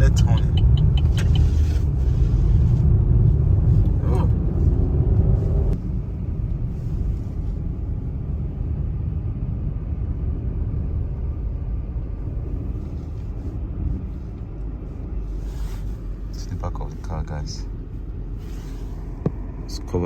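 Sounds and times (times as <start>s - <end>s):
car driving on snowy road: 0.0s - 20.0s.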